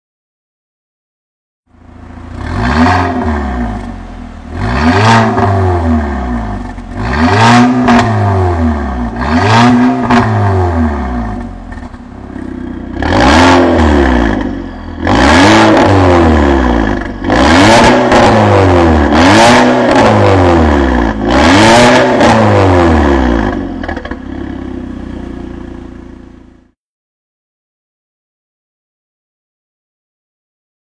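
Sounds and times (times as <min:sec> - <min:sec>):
car engine revving: 0:01.7 - 0:26.8.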